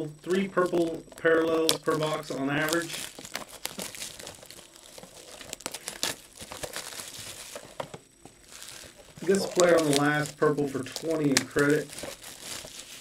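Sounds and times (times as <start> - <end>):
plastic wrap crinkling and tearing: 1.4 - 13.0.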